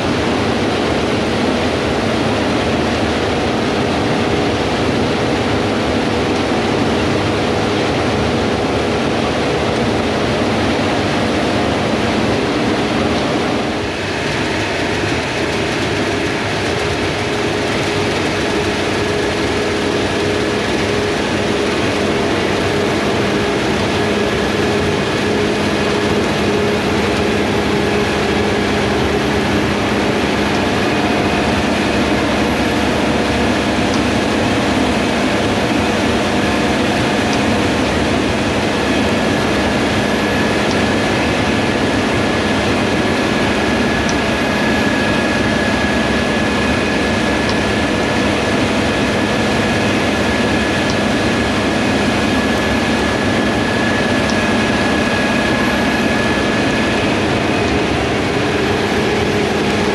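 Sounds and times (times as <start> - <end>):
combine harvester machinery with whine: 0.0 - 59.9.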